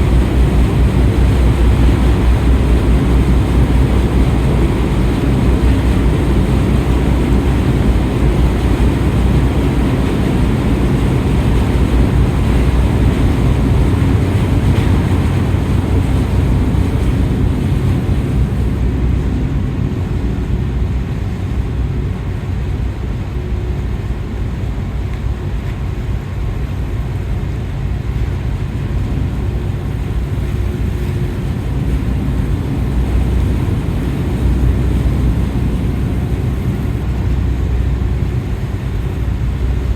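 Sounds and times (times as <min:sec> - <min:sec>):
ship engines rumbling: 0:00.0 - 0:39.9.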